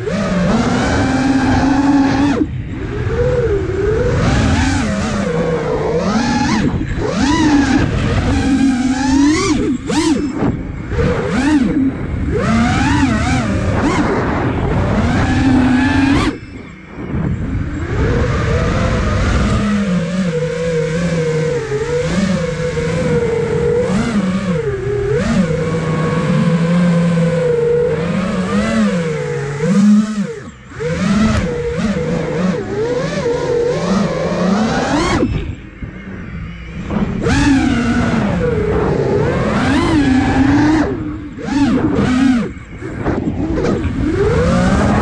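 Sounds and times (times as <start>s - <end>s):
drone motors and propellers whining: 0.0s - 45.0s.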